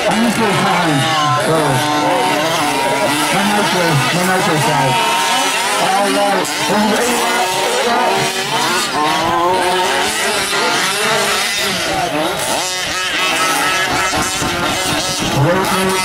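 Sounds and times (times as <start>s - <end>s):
small two-stroke engines revving: 0.0s - 16.0s.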